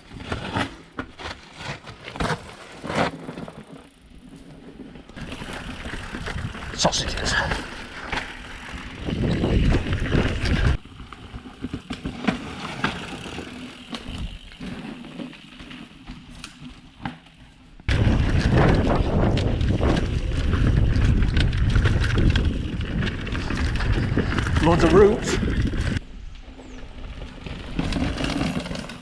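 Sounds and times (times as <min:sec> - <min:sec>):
bike rattling and clicking: 0:00.0 - 0:29.0
bike tyres rolling on dirt: 0:00.0 - 0:29.0.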